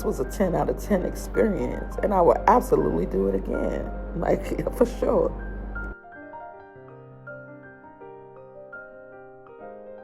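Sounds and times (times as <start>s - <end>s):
keyboard melody: 0.0s - 10.0s.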